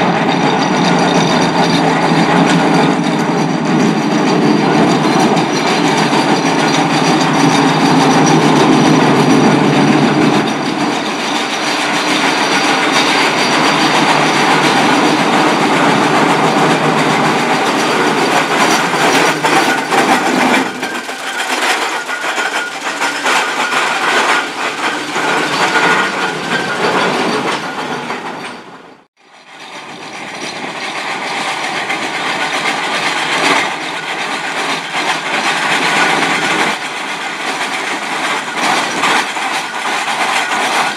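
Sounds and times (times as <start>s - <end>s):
steam traction engine clattering: 0.0s - 40.9s.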